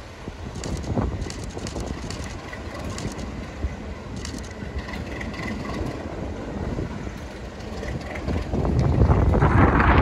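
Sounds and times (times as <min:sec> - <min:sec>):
diesel locomotive engine rumbling: 0:00.0 - 0:10.0.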